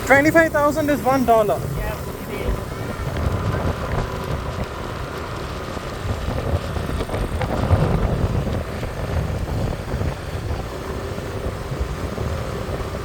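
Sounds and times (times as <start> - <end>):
city traffic: 0.0 - 13.0
engines humming: 0.0 - 13.0
wind buffeting microphone: 0.0 - 13.0.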